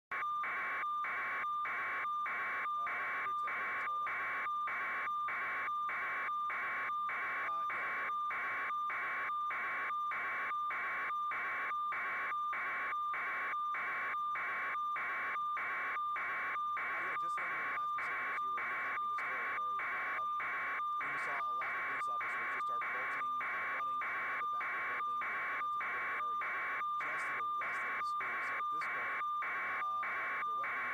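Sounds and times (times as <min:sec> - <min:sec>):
constant mid-pitched tone: 0:00.1 - 0:30.9
radio static hiss: 0:00.5 - 0:30.9.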